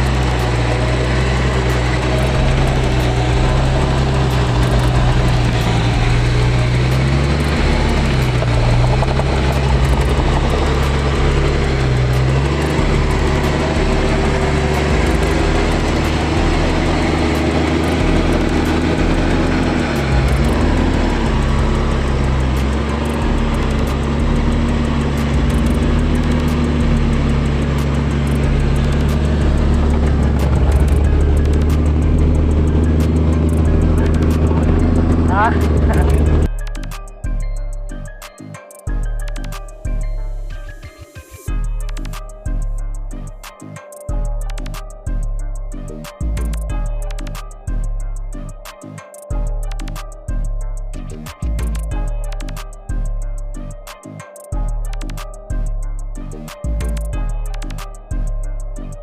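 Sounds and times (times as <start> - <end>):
vehicle engine running: 0.0 - 38.3, 44.1 - 47.9, 49.4 - 53.8, 54.6 - 59.0.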